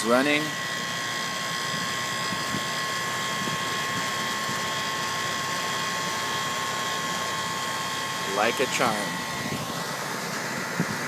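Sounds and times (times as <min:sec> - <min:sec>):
air conditioner compressor whirring: 0:00.0 - 0:11.0.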